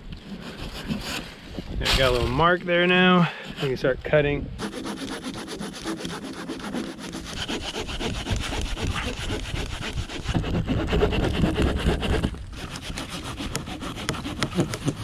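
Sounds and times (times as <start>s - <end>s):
hand saw cutting log: 0.2s - 2.3s, 3.3s - 3.9s, 4.6s - 15.0s.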